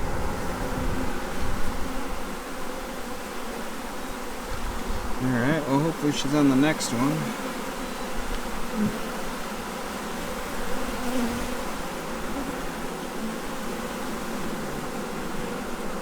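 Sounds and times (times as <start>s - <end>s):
honey bees humming: 0.0s - 16.0s
single bee buzzing close by: 0.0s - 16.0s.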